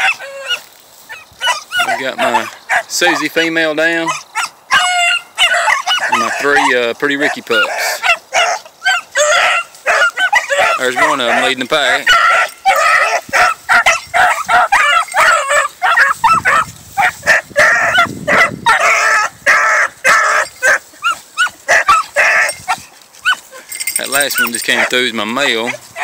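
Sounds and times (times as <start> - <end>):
dogs yelping and baying: 0.0 - 26.0.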